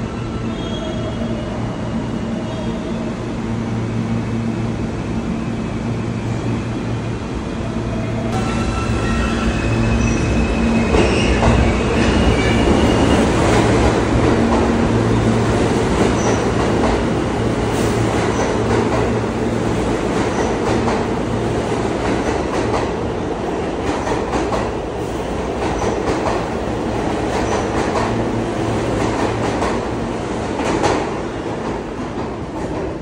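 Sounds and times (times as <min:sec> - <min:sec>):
subway train rumbling: 0:00.0 - 0:33.0.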